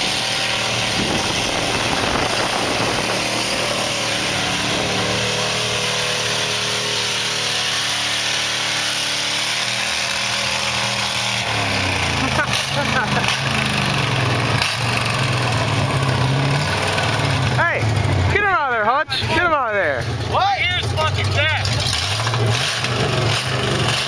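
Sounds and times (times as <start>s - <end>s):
pickup truck engine running: 0.0s - 24.0s.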